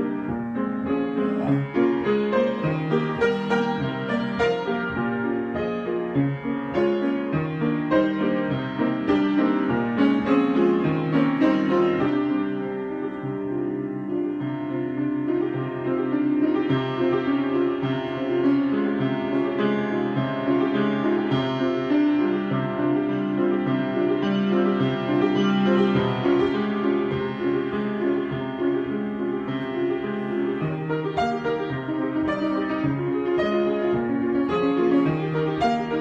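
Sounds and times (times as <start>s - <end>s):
solo piano: 0.0s - 36.0s.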